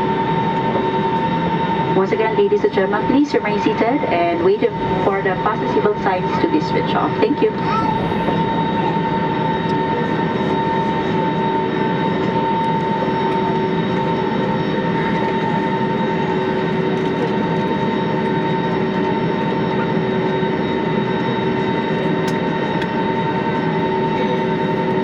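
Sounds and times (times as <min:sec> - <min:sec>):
airliner cabin hum: 0:00.1 - 0:25.0.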